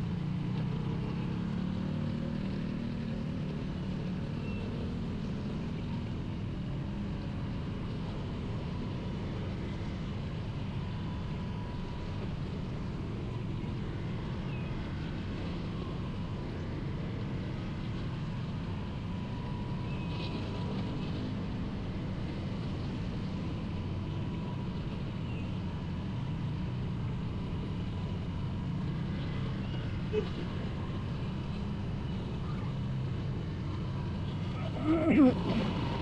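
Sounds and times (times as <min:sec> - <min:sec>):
motorcycle engine and road rumble: 0:00.0 - 0:36.0.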